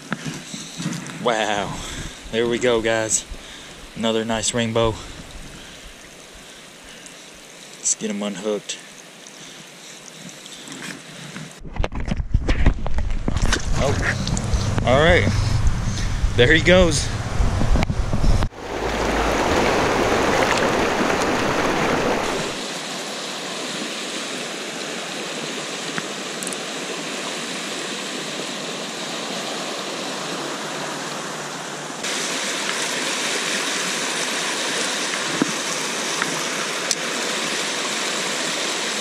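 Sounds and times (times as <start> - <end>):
creek water running over rocks: 0.0 - 15.3, 18.5 - 39.0.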